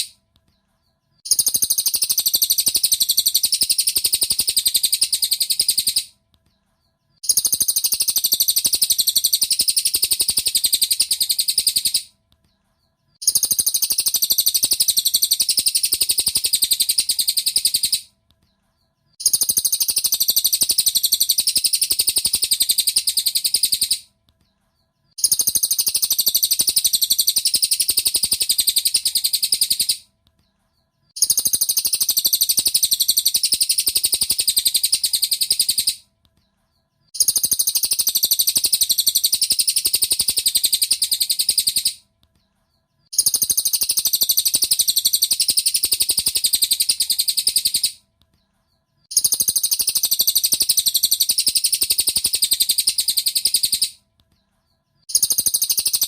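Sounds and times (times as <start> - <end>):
drongo chattering song: 0.0 - 56.0.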